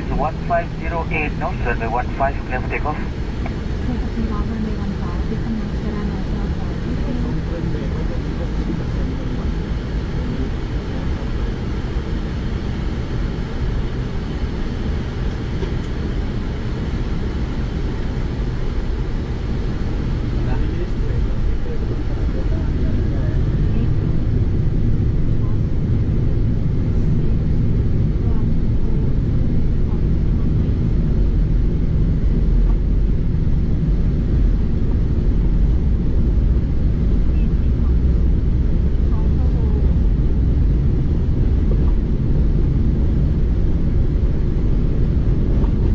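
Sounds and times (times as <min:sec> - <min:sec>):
aircraft engine rumble in cockpit: 0:00.0 - 0:45.9.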